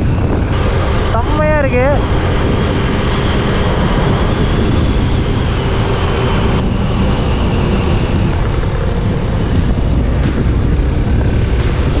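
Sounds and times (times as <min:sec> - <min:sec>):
motorbike engine running: 0:00.0 - 0:12.0
road noise: 0:00.0 - 0:12.0
wind buffeting microphone: 0:00.0 - 0:12.0.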